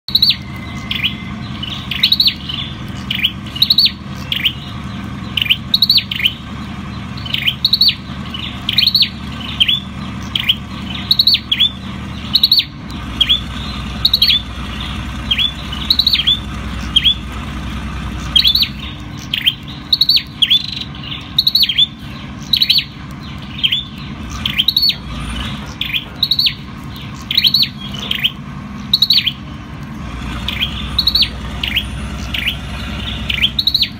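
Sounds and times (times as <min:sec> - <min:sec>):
bird singing sharp notes: 0:00.1 - 0:29.7, 0:30.3 - 0:33.9.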